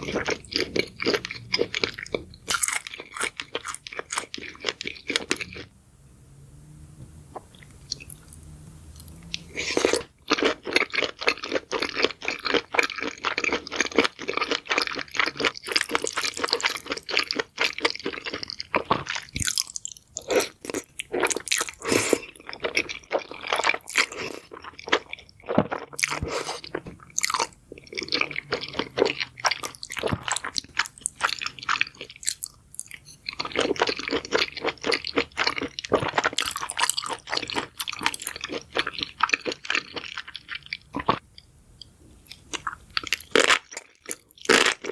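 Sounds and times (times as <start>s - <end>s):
person chewing crunchy food: 0.0s - 5.7s, 7.3s - 41.2s, 42.2s - 44.9s.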